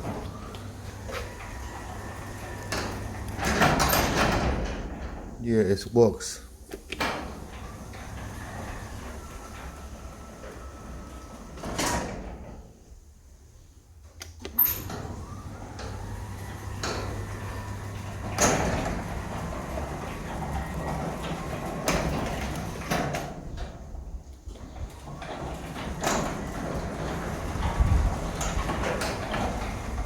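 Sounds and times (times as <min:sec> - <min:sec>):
garage door opener humming: 0:00.0 - 0:05.4, 0:06.7 - 0:12.9, 0:14.4 - 0:30.0
garage door clunks and rattles: 0:00.0 - 0:05.6, 0:06.7 - 0:13.0, 0:14.4 - 0:30.0.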